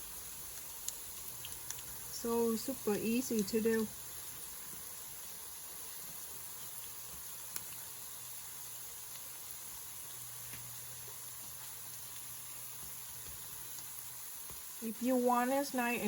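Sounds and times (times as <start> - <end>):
food sizzling in hot oil: 0.0 - 16.0
oil crackles and pops: 0.0 - 16.0.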